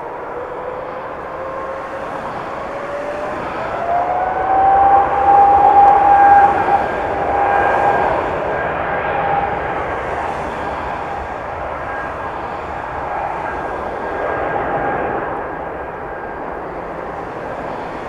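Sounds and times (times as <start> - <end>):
jet engines at high power: 0.0 - 18.0.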